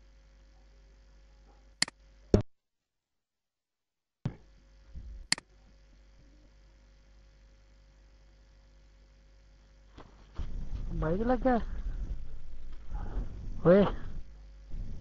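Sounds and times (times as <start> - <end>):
mains hum: 0.0 - 2.5, 4.2 - 15.0.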